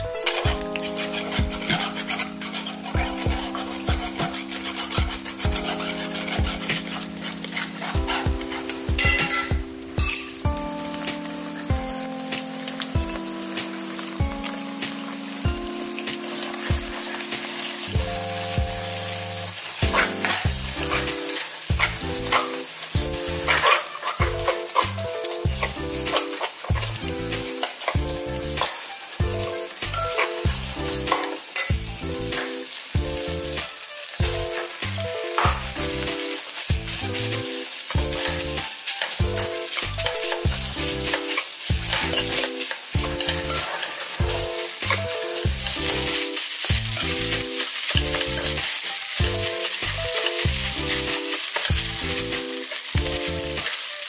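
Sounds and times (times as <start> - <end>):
spatula scraping a pan: 0.0 - 10.4, 16.1 - 32.8, 33.4 - 54.0
food sizzling in a frying pan: 0.0 - 54.0
light background music: 0.0 - 54.0.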